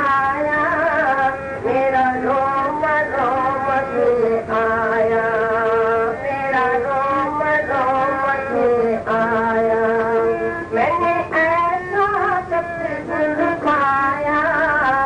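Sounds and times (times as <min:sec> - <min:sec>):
person singing a hymn: 0:00.0 - 0:15.0.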